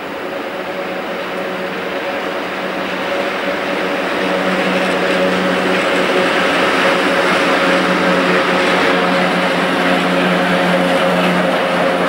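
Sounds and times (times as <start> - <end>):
train wheels on rails rushing: 0.0 - 12.0.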